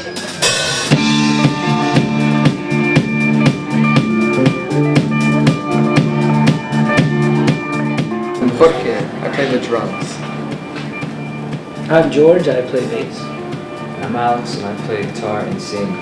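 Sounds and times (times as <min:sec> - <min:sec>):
drum kit beat: 0:00.0 - 0:16.0
band playing a song: 0:00.4 - 0:15.7.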